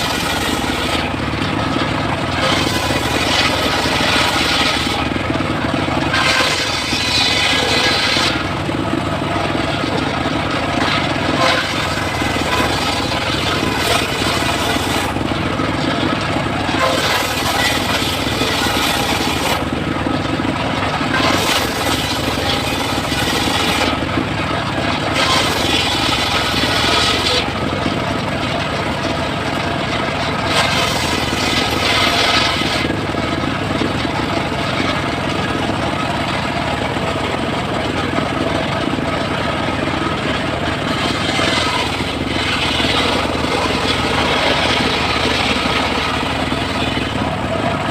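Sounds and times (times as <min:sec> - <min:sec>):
circular saw motor humming: 0:00.0 - 0:47.9
saw blade cutting wood: 0:00.0 - 0:47.9.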